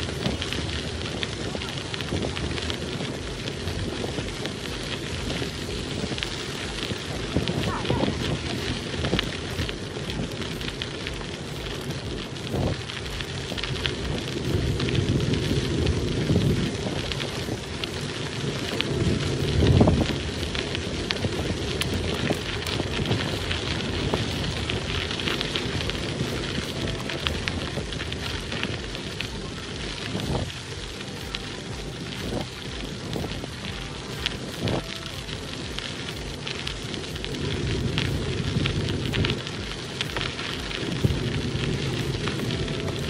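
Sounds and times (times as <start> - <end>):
bicycle tyres crunching on gravel: 0.0 - 43.0
wind rumble on microphone: 0.0 - 43.0.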